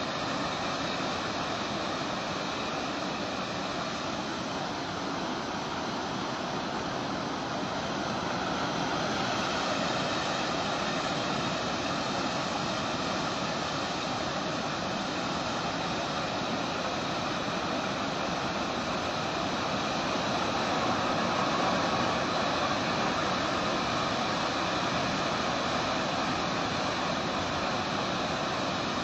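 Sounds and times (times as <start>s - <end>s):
river in flood rushing: 0.0s - 29.0s.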